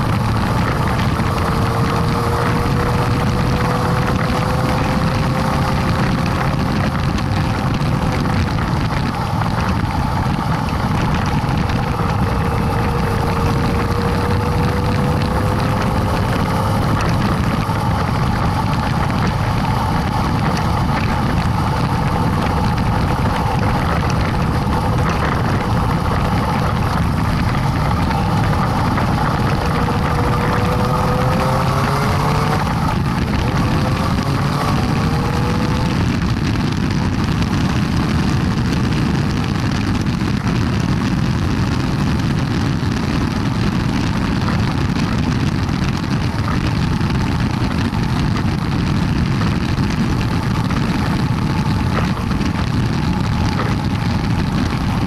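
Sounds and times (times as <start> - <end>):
heavy wind noise: 0.0 - 55.0
motorcycle engine running: 0.0 - 55.0.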